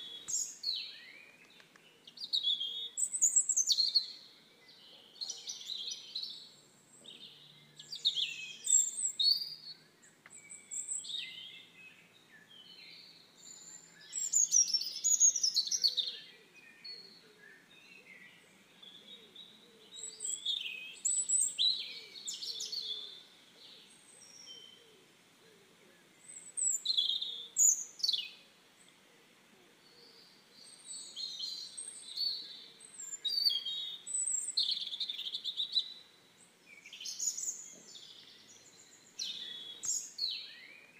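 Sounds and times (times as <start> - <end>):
faint background hiss: 0.0 - 40.9
songbirds chirping and trilling: 0.0 - 40.9.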